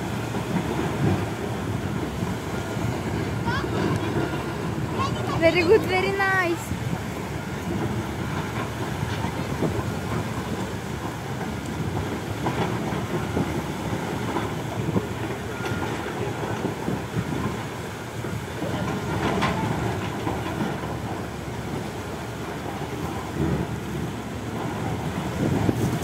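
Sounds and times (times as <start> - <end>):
excavator diesel engine rumble: 0.0 - 26.0.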